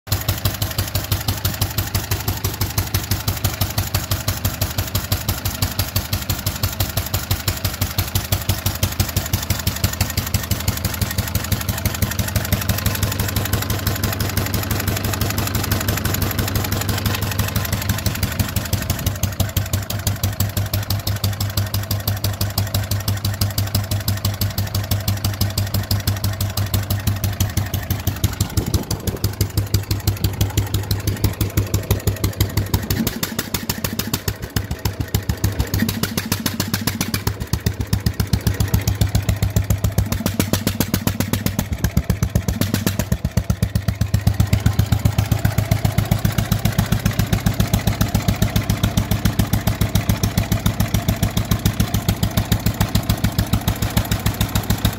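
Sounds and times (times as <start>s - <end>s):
stationary engine running: 0.1s - 54.9s.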